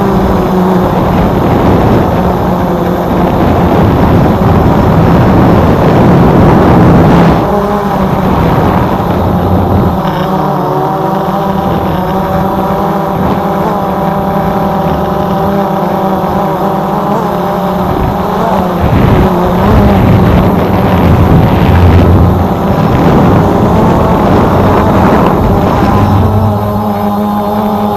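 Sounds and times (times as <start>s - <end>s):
drone propellers whining: 0.0s - 27.9s
wind rumble on microphone: 0.0s - 27.9s.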